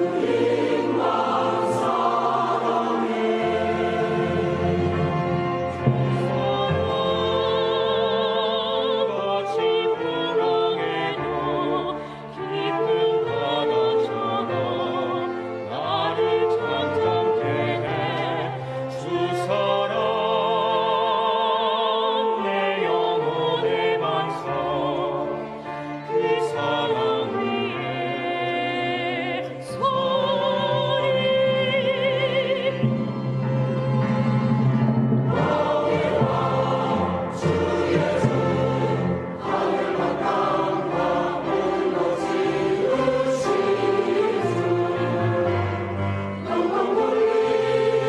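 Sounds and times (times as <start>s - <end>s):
instrumental accompaniment: 0.0s - 20.3s, 22.2s - 48.0s
choir singing: 0.0s - 48.0s.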